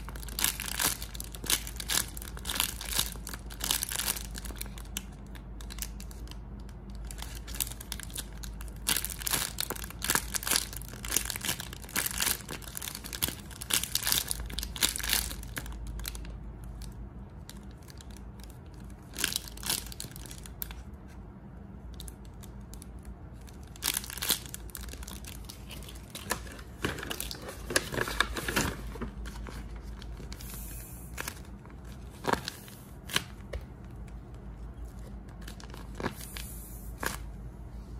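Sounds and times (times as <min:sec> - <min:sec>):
plastic bag crinkling: 0:00.0 - 0:20.9, 0:22.0 - 0:34.0, 0:34.6 - 0:37.2.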